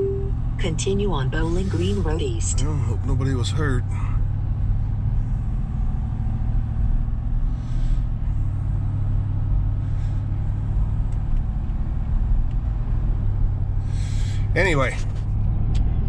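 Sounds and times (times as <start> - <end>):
vehicle engine rumble and road noise: 0.0 - 16.0.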